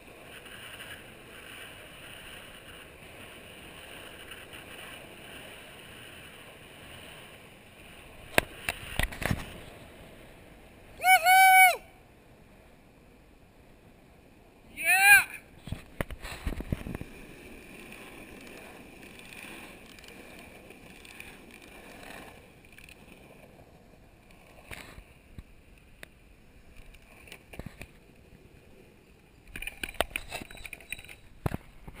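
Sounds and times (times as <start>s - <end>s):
longboard wheels rolling on asphalt: 0.0s - 32.0s.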